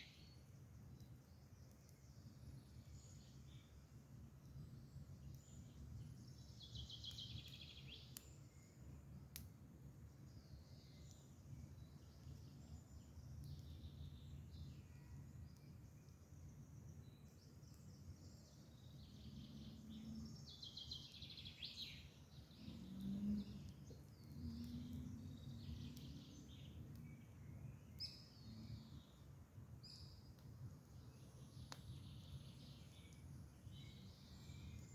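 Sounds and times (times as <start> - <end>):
songbirds singing and chirping: 0.0 - 34.9.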